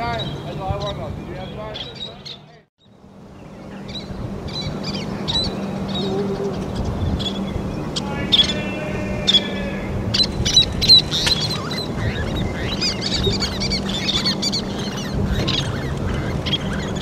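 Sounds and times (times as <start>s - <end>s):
steady low hum: 0.0s - 17.0s
terns chirping: 0.0s - 17.0s.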